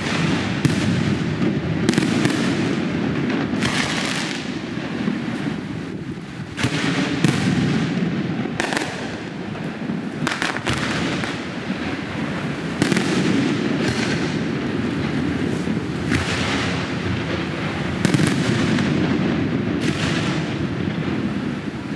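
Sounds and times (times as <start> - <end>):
firework shells bursting with booms: 0.0 - 21.9
fireworks crackle: 0.0 - 21.9
sharp firework bangs: 0.0 - 21.9.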